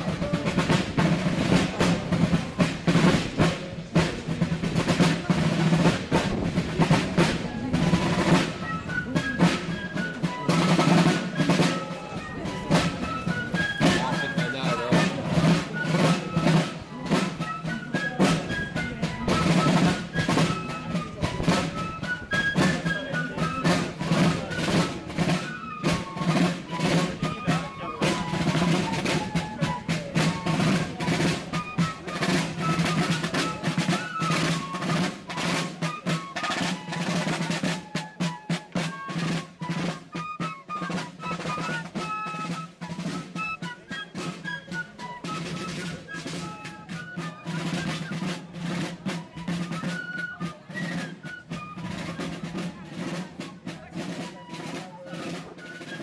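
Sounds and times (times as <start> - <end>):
side drums rolling: 0.0 - 56.0.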